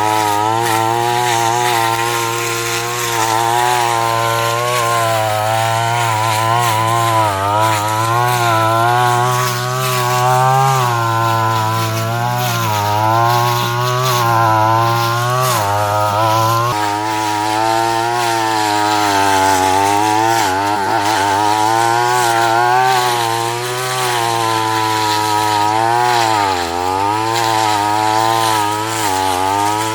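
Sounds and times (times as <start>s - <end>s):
small mower engine running: 0.0s - 29.9s.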